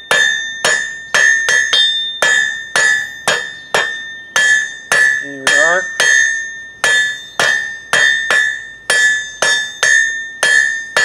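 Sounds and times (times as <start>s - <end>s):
anvil ringing: 0.0s - 11.0s
hammer striking steel on anvil: 0.0s - 11.0s.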